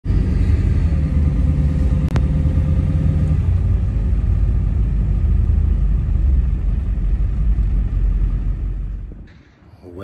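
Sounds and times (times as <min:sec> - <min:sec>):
vehicle engine rumble: 0:00.0 - 0:09.7.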